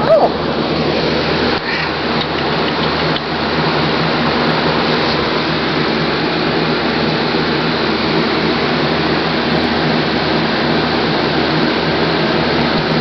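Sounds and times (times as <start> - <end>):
constant low hum: 0.0 - 13.0
loud rushing machine noise: 0.0 - 13.0.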